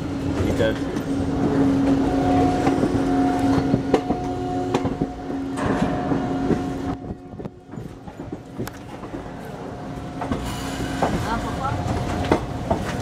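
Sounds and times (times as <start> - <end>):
train rumble and hum: 0.0 - 13.0
train wheels clicking over rail joints: 0.2 - 13.0.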